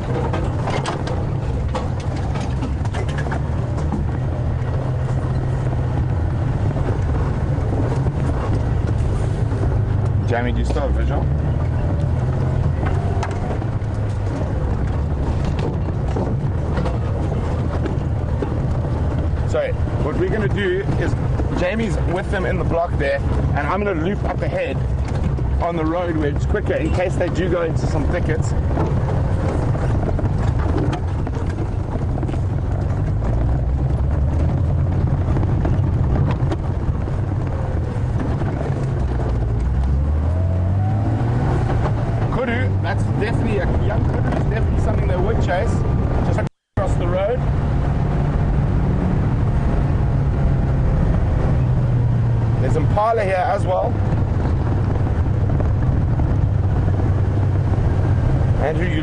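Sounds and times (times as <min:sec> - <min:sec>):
knocks and rattles: 0:00.0 - 0:47.4
vehicle engine rumbling: 0:00.0 - 0:59.0.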